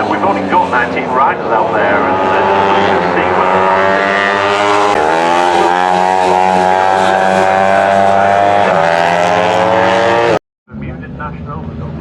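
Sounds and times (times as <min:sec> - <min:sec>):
superbike engines at high revs: 0:00.0 - 0:10.4.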